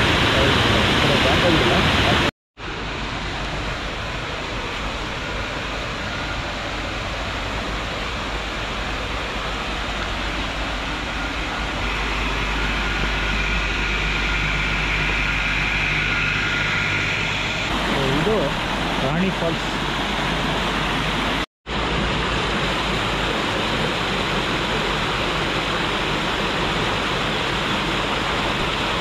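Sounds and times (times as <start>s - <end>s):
faint high whine: 0.0s - 29.0s
wind and road noise: 0.0s - 29.0s.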